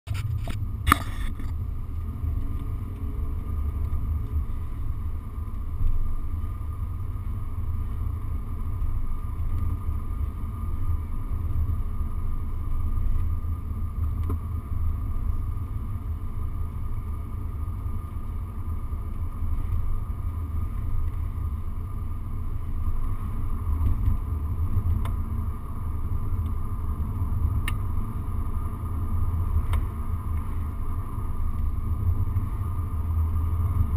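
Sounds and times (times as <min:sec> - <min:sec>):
car engine and tyre rumble: 0:00.0 - 0:33.9.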